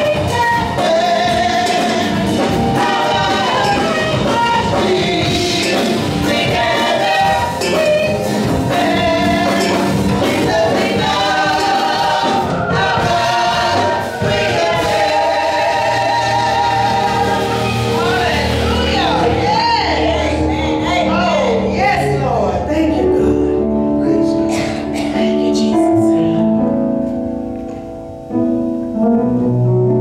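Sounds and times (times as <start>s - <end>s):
choir singing gospel music: 0.0s - 26.2s.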